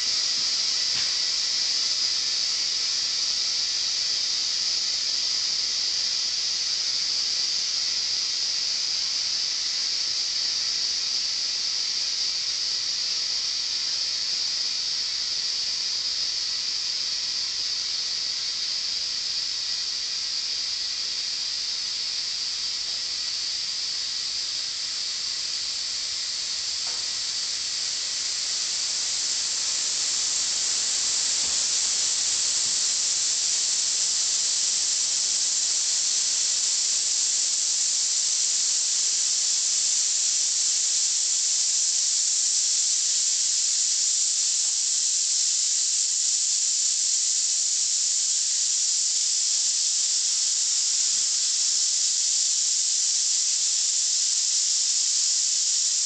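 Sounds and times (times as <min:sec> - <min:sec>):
compressed air hissing into tire: 0:00.0 - 0:56.0.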